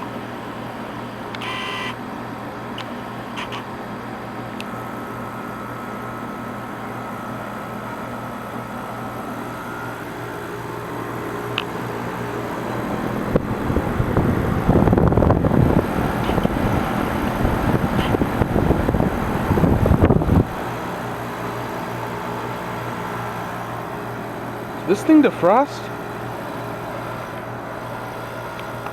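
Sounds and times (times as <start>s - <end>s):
heat pump humming: 0.0s - 28.9s.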